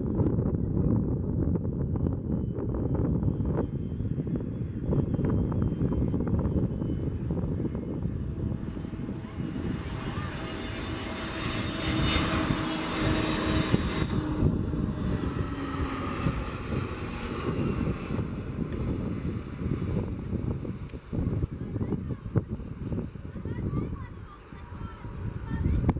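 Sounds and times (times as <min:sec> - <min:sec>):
jet airliner engine noise: 0:00.0 - 0:25.9.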